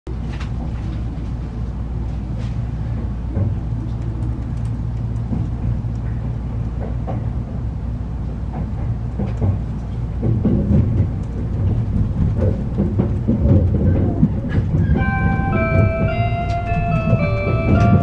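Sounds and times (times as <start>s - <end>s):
train running gear rumble: 0.1s - 18.0s.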